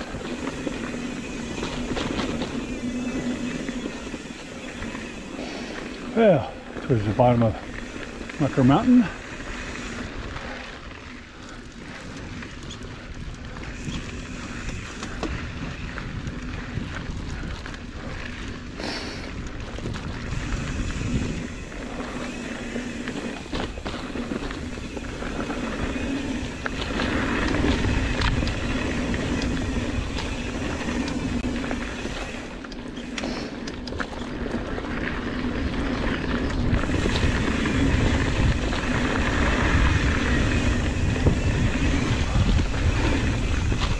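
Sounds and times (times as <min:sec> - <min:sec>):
bike clicking and rattling: 0:00.0 - 0:43.9
bike tyres rolling on dirt: 0:00.0 - 0:43.9
wind rumbling on microphone: 0:00.0 - 0:43.9.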